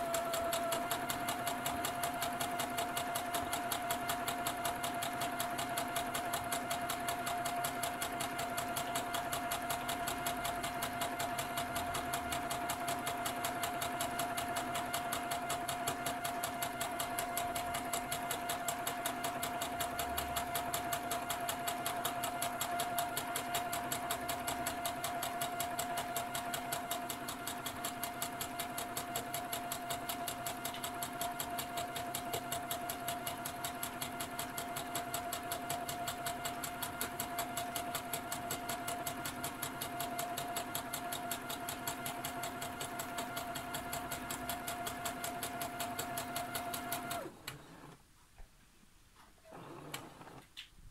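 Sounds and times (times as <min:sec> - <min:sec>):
sewing machine running: 0:00.0 - 0:48.0.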